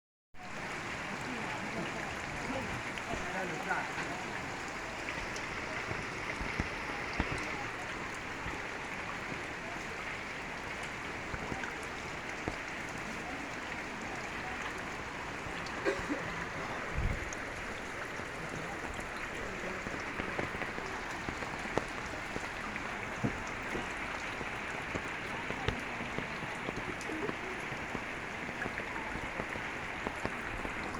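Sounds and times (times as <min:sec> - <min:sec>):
floodwater rushing: 0:00.4 - 0:30.9
water splashes and drips: 0:00.4 - 0:30.9.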